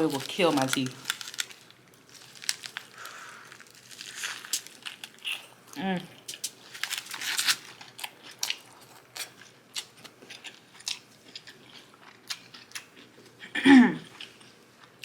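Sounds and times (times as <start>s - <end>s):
chewing with crisp crunches: 0.0s - 15.0s.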